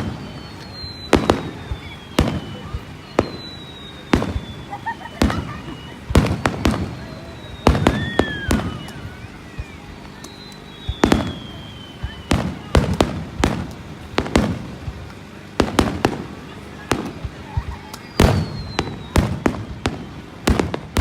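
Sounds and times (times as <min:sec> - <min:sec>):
fireworks bursting with sharp bangs: 0:00.0 - 0:21.0.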